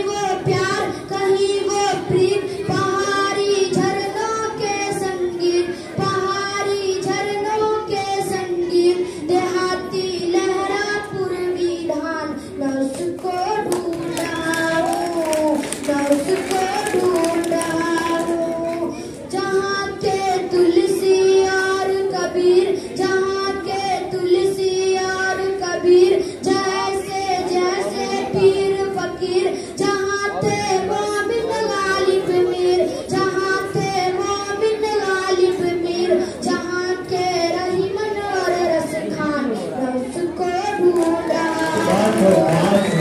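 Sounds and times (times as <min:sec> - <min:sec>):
boy singing into microphone: 0:00.0 - 0:43.0.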